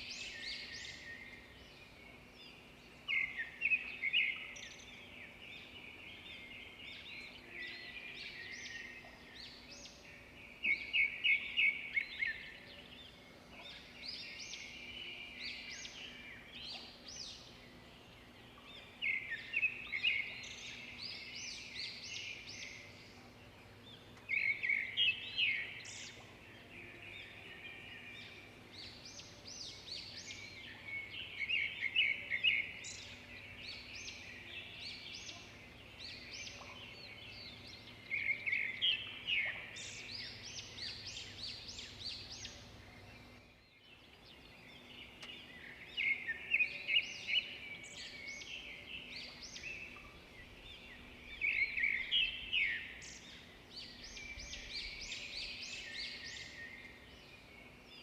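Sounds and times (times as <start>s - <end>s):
birds chirping and trilling: 0.0s - 58.0s
faint outdoor background noise: 0.0s - 58.0s.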